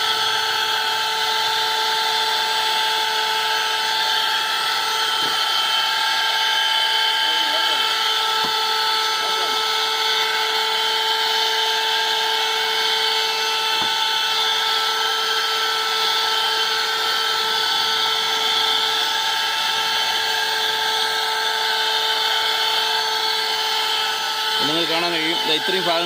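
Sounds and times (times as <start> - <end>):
handheld vacuum cleaner whine: 0.0 - 26.0.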